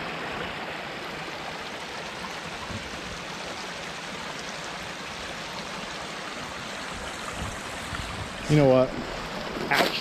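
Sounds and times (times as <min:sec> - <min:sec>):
creek rushing: 0:00.0 - 0:10.0.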